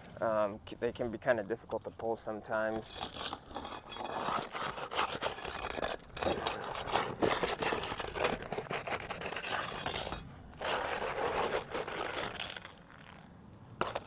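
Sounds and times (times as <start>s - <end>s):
metal tool scraping on shingles: 1.6s - 14.0s.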